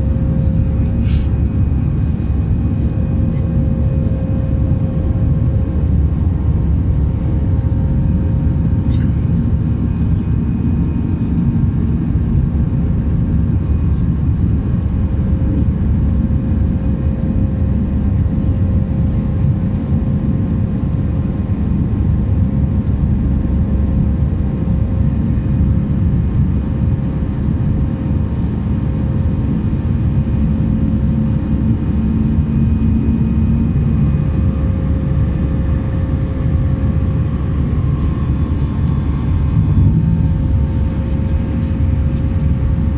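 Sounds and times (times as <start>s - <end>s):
jet engine cabin rumble: 0.0s - 42.9s
low droning tone: 0.0s - 42.9s.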